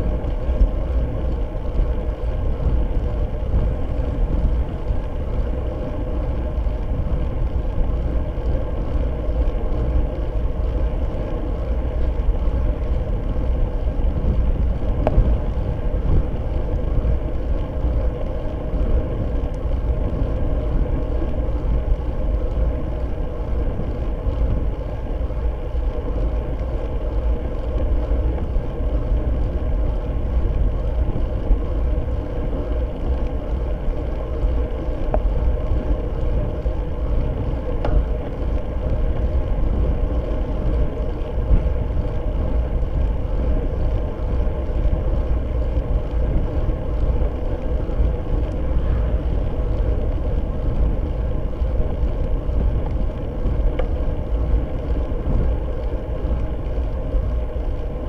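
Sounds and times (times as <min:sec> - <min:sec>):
tyre noise on concrete road: 0:00.0 - 0:58.0
wind rumble on microphone: 0:00.0 - 0:58.0.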